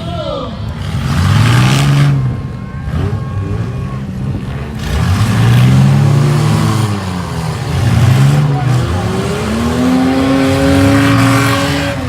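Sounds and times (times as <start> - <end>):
minivan engines revving: 0.0 - 12.0.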